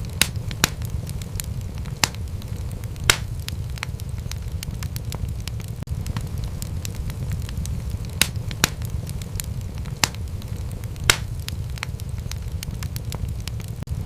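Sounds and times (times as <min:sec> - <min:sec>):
loud fire pops: 0:00.0 - 0:14.0
low fire rumble: 0:00.0 - 0:14.0
wood fire crackling: 0:00.0 - 0:14.0.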